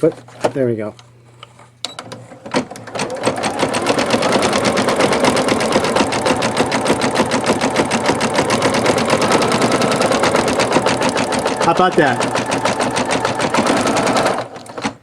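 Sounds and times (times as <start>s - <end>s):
embroidery machine stitching: 2.0s - 15.0s
embroidery machine clicks: 2.5s - 15.0s.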